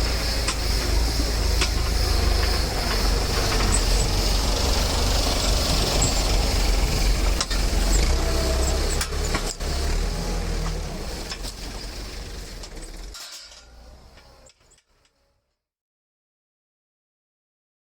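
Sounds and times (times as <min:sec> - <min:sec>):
tractor engine hum: 0:00.0 - 0:14.8
baling machinery clanks: 0:00.0 - 0:15.0.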